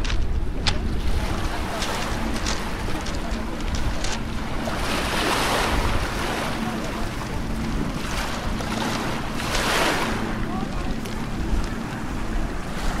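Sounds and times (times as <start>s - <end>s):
waves washing over pebbles: 0.0s - 13.0s
wind rumble on microphone: 0.0s - 13.0s.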